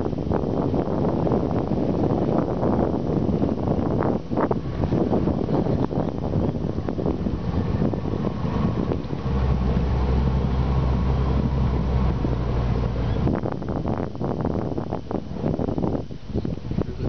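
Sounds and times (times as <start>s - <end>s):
boat motor running: 0.0s - 17.0s
wind buffeting microphone: 0.0s - 17.0s.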